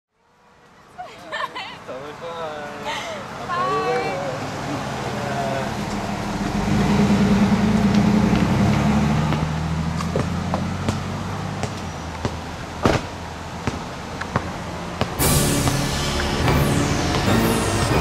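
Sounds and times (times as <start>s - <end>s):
car engine humming: 2.9s - 18.0s.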